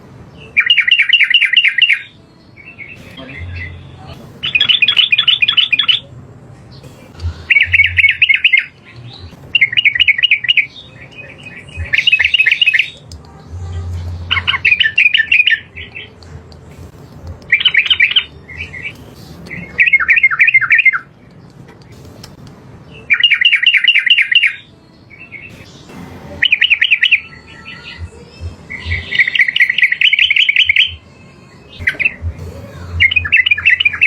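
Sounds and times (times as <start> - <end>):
bulbul singing bubbling phrases: 0.6 - 34.0.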